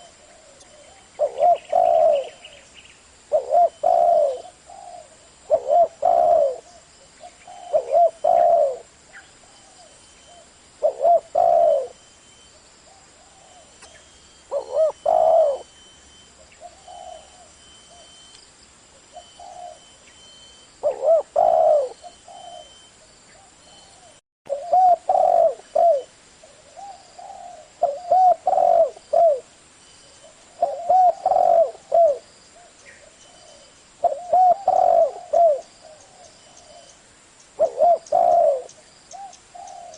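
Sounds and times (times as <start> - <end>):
dove cooing: 0.0 - 2.6, 3.3 - 12.0, 12.9 - 15.8, 16.4 - 18.2, 19.1 - 20.0, 20.8 - 29.5, 30.2 - 37.0, 37.6 - 39.9.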